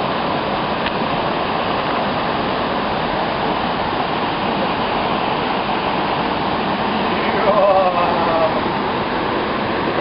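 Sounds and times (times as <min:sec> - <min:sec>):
waterfall pouring into a pool: 0:00.0 - 0:10.0.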